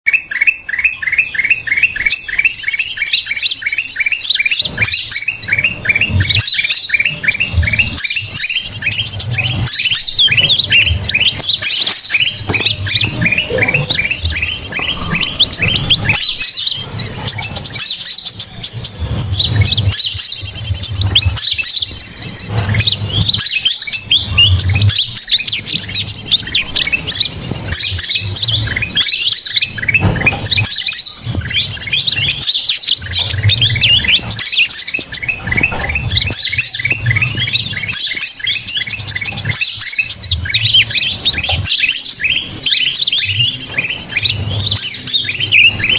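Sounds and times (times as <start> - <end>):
agitated bird chorus: 0.1 - 45.9
bulbul calls: 0.1 - 45.9
fast repeated chirps: 0.1 - 45.9.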